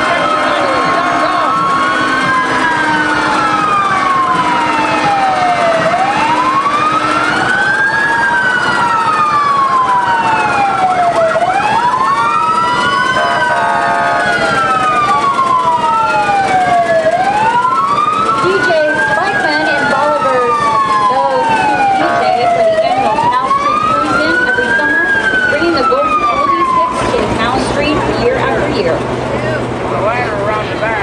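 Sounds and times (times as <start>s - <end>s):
fire truck sirens wailing: 0.0s - 31.0s.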